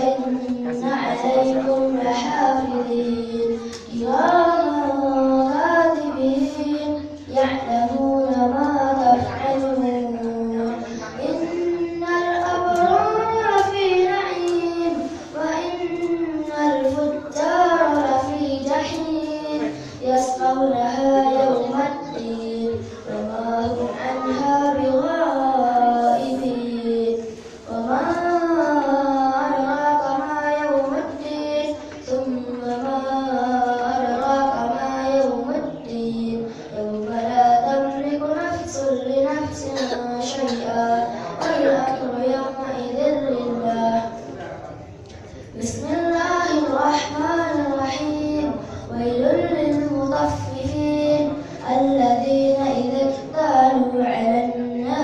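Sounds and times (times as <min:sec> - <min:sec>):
child chanting melodically: 0:00.0 - 0:44.4, 0:45.2 - 0:55.0.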